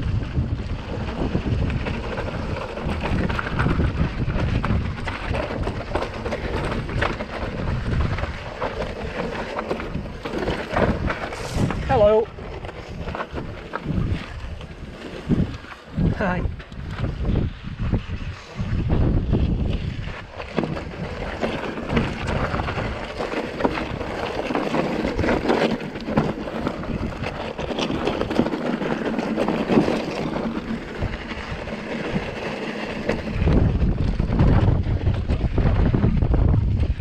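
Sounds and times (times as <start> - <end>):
bike tyres crunching over stones: 0.0 - 37.0
wind buffeting microphone: 0.0 - 37.0.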